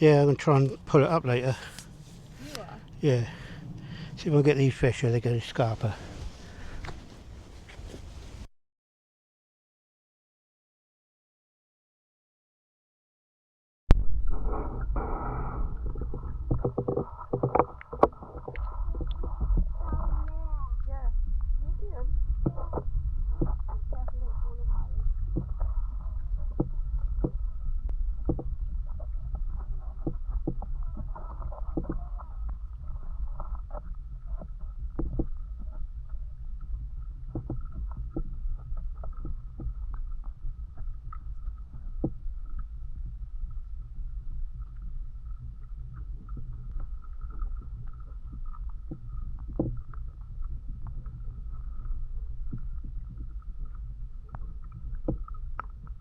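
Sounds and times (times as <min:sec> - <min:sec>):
low wind rumble on microphone: 0:00.0 - 0:08.5, 0:13.9 - 0:56.0.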